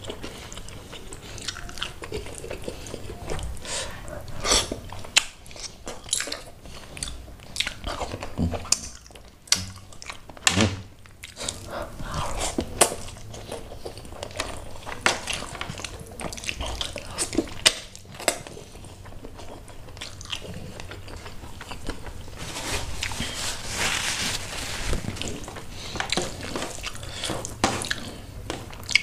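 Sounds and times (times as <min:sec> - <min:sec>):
wet chewing: 0:00.0 - 0:10.4, 0:11.0 - 0:23.7, 0:24.4 - 0:29.0.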